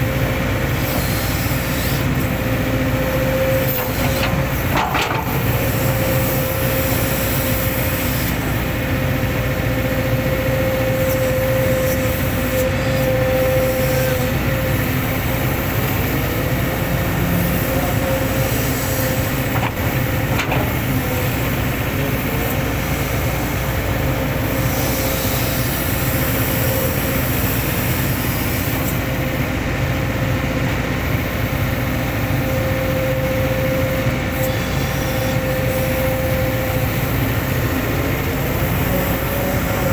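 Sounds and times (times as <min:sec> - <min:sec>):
diesel engine running: 0:00.0 - 0:39.9
hydraulic whine: 0:00.0 - 0:39.9.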